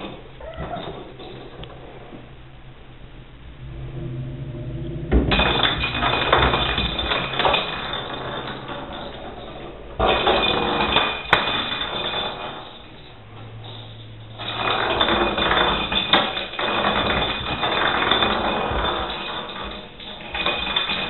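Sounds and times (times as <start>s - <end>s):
plastic ball rolling in bathtub: 0.0s - 2.5s, 3.4s - 21.0s.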